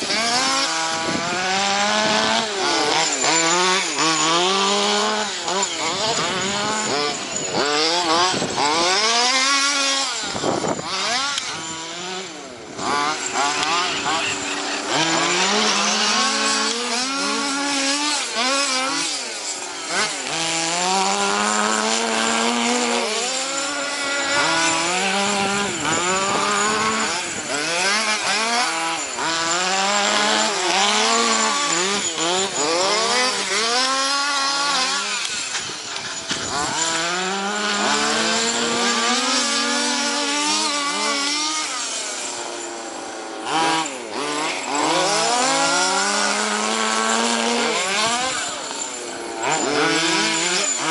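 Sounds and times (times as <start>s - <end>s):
rc car engines revving: 0.0s - 50.9s.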